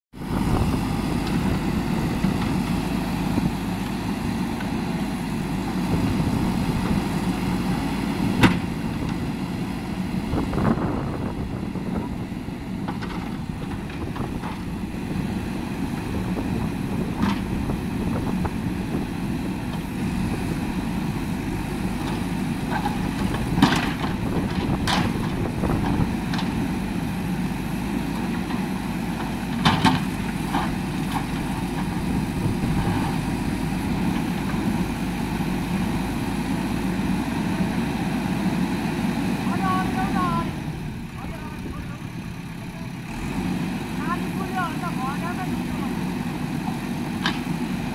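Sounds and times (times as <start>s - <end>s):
diesel engine running: 0.1s - 47.9s.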